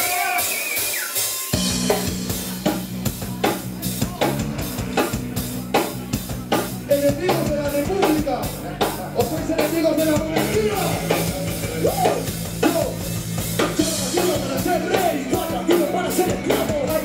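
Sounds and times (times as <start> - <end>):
live rock band: 0.0 - 17.0.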